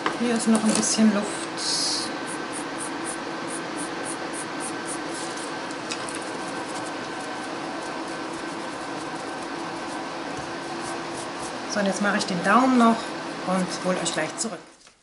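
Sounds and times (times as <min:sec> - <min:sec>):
dust extraction fan whirring: 0:00.0 - 0:14.9.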